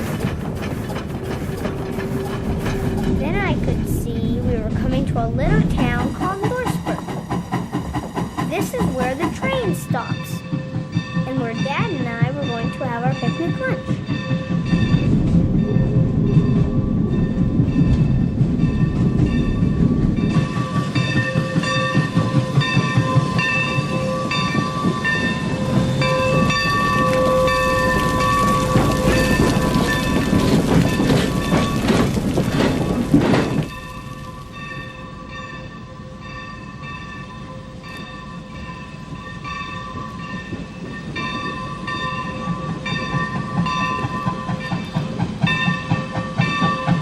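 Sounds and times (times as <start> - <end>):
train rumbling slowly: 0.0 - 47.0.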